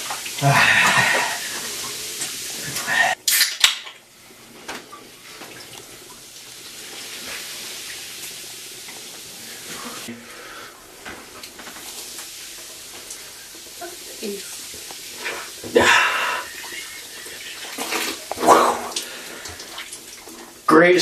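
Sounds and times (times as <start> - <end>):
soda drips and splashes: 0.0 - 20.7
soda fizzing: 0.0 - 21.0.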